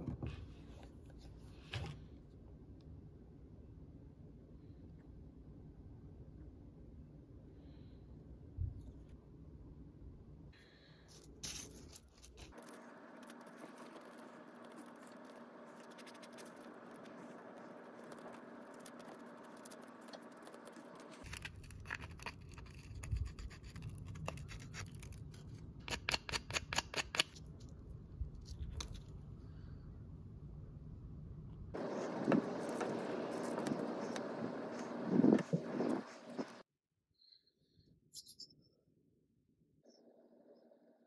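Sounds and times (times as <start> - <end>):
faint steady hum: 0.0 - 25.8, 27.3 - 36.6.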